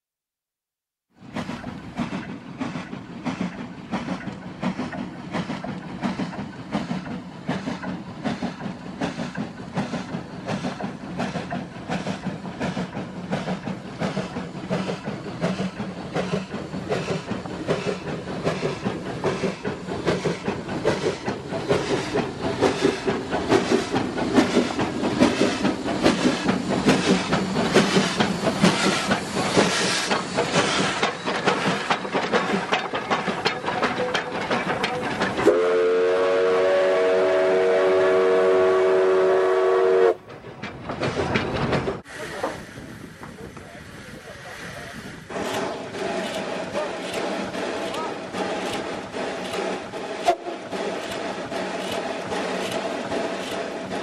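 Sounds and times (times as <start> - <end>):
hiss of steam: 1.2 - 33.4, 42.0 - 54.0
steam locomotive chuffing: 1.2 - 54.0.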